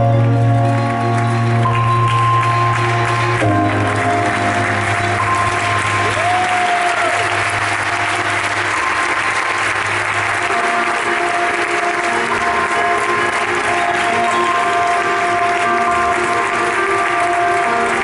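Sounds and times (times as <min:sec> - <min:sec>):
audience applauding: 0:00.0 - 0:18.0
background music with held notes: 0:00.0 - 0:18.0.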